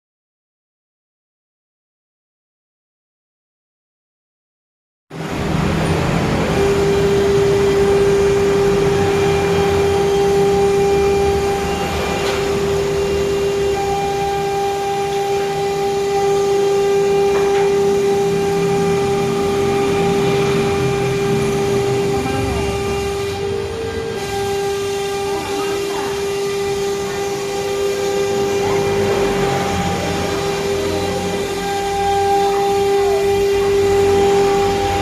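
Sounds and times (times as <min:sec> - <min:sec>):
cnc router spindle whine: 0:05.2 - 0:35.0
rumbling machine noise: 0:05.2 - 0:35.0.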